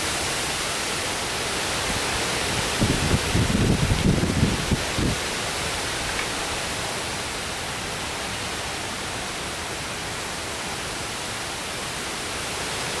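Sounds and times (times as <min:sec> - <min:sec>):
heavy rain: 0:00.0 - 0:13.0
wind: 0:00.0 - 0:13.0.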